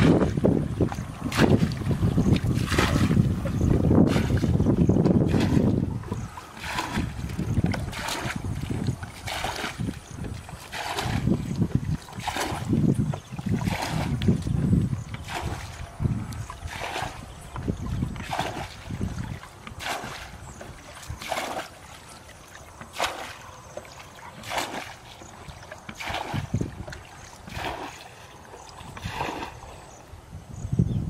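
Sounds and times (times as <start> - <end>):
bucket scooping and splashing water: 0.0 - 30.0.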